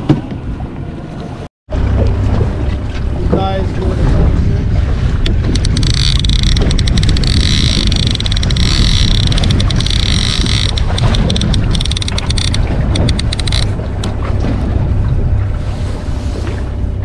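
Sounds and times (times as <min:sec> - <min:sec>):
boat engine rumble: 0:00.0 - 0:17.0
wind buffeting microphone: 0:02.2 - 0:17.0.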